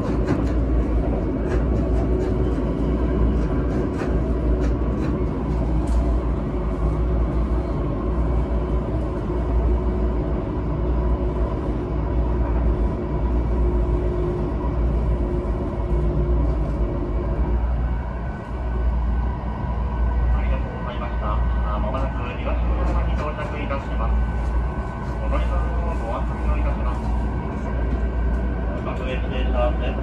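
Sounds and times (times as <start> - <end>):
constant hum: 0.0 - 30.0
train wheels rumbling on rail: 0.0 - 30.0.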